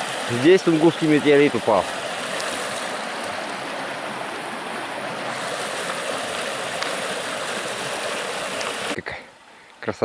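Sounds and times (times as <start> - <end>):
stream rushing: 0.0 - 9.5.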